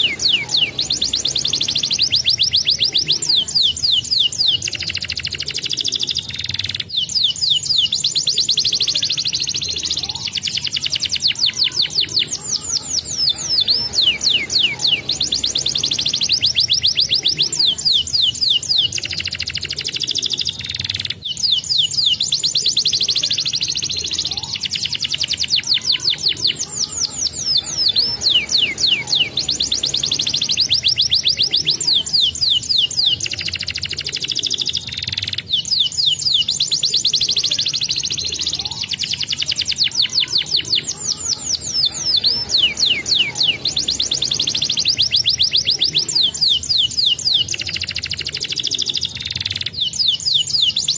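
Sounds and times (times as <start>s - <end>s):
canary singing: 0.0s - 50.9s.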